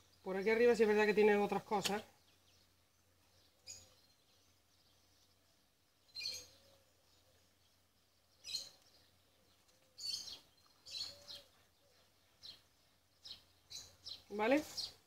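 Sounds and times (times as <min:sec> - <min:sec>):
faint high bird chirps: 0:02.2 - 0:15.0.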